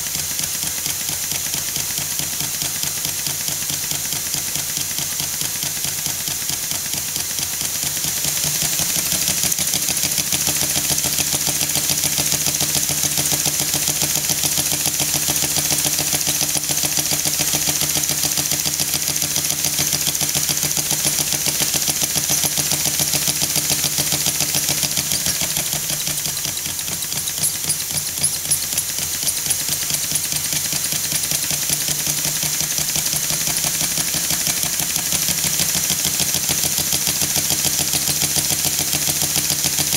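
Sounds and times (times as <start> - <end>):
model steam engine running fast: 0.0 - 39.9.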